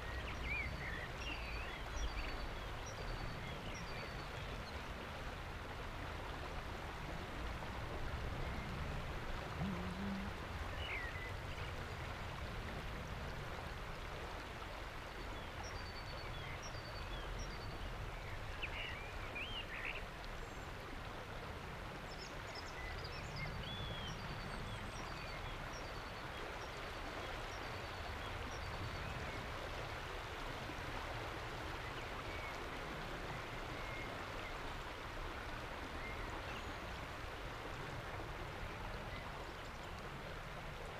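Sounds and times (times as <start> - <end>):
rush of flowing river water: 0.0 - 40.9.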